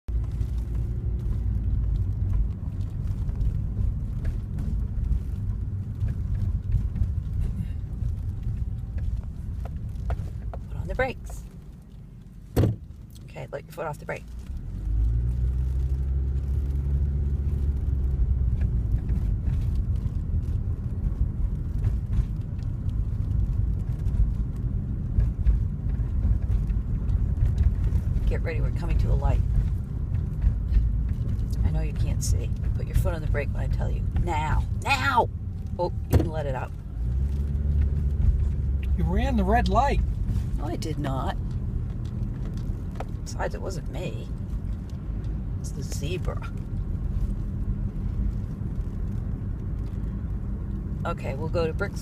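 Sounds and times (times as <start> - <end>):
car engine rumble inside cabin: 0.0 - 52.0.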